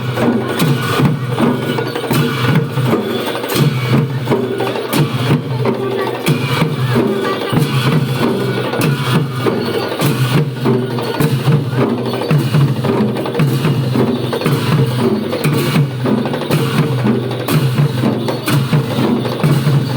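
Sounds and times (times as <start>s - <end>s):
fast drum strokes: 0.0s - 19.9s
metallic cymbal clashes: 0.0s - 19.9s.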